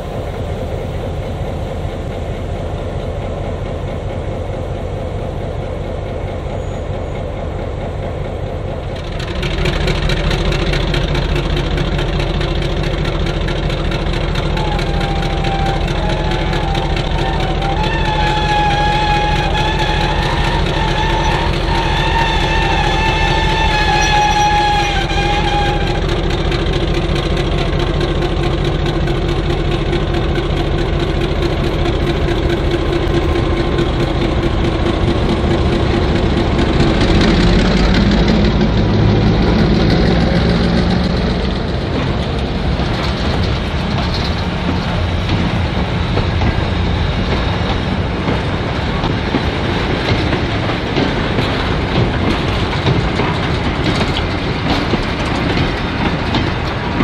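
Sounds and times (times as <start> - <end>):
diesel locomotive engine passing: 0.0 - 57.0
wheels clacking on rail joints: 1.7 - 57.0.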